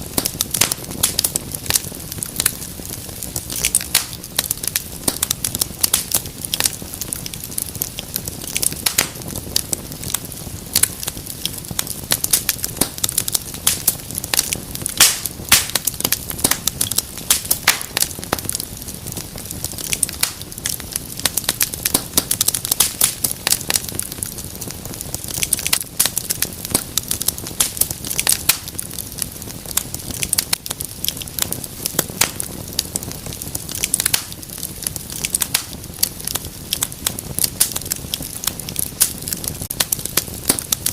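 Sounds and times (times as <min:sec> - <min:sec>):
fire crackling pops and snaps: 0:00.0 - 0:40.9
rush of flames: 0:00.0 - 0:40.9.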